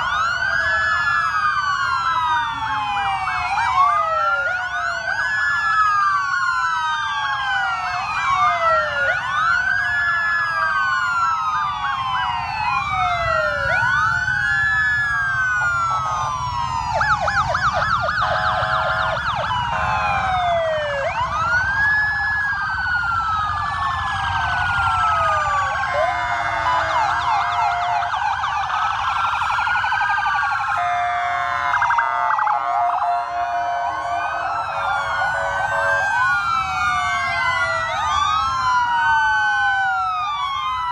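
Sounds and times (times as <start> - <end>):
police sirens wailing and yelping: 0.0 - 40.9.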